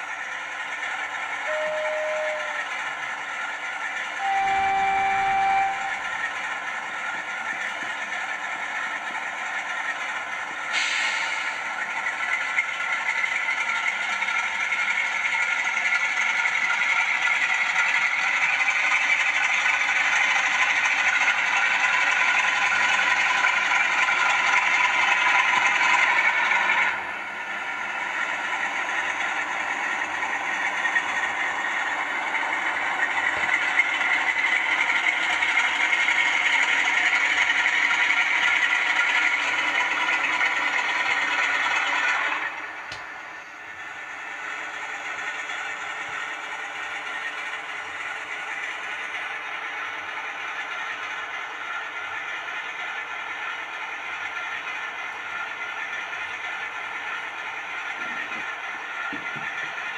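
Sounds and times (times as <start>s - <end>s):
diesel engine through small speakers: 0.0s - 59.9s.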